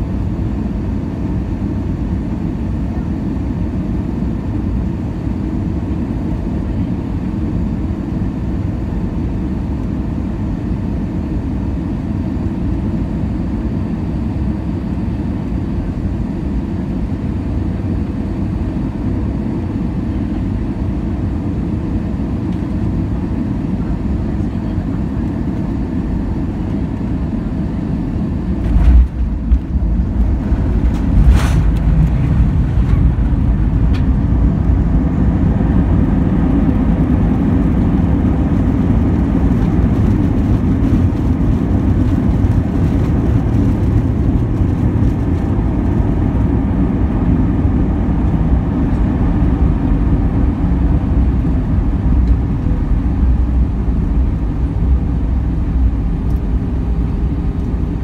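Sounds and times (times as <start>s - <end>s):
cabin engine rumble: 0.0s - 58.0s.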